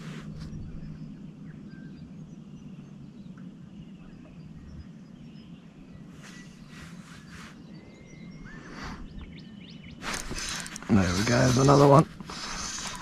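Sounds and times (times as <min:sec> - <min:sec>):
distant birds chirping: 0:00.0 - 0:13.0
low steady hum: 0:00.0 - 0:13.0.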